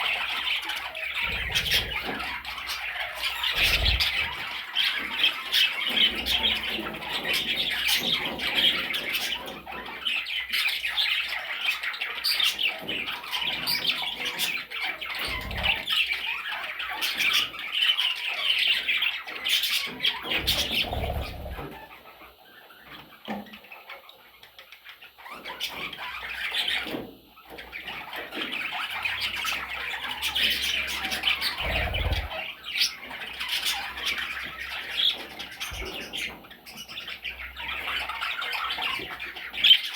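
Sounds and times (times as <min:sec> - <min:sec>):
budgerigar chattering and squawking: 0:00.0 - 0:24.2, 0:25.0 - 0:39.9.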